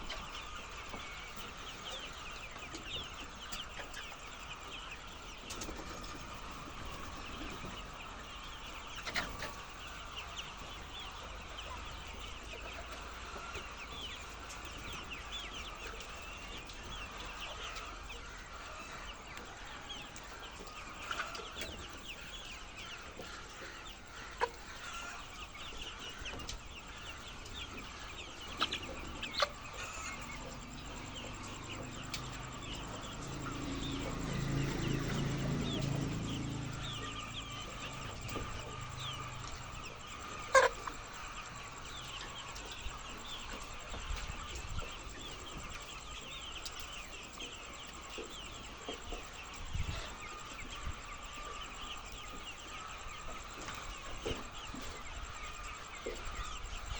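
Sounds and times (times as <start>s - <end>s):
hens clucking and chirping: 0.0s - 56.9s.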